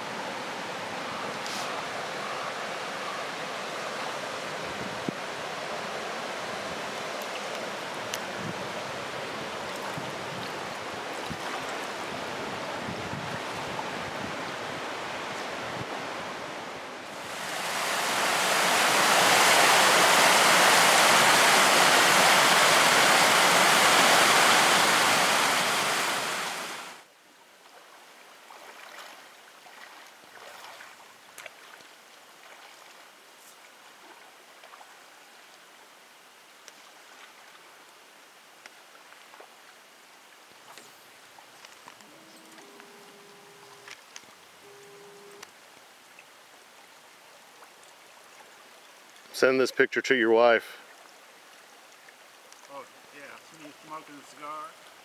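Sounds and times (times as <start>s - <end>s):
rushing river water: 0.0s - 55.0s.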